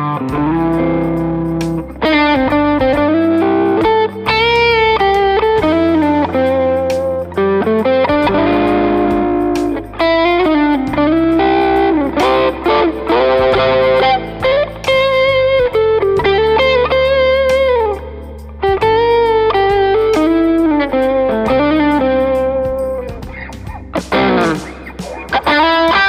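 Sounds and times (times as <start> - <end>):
bass and drums backing track: 0.0 - 26.0
electric guitar lead melody: 0.0 - 26.0.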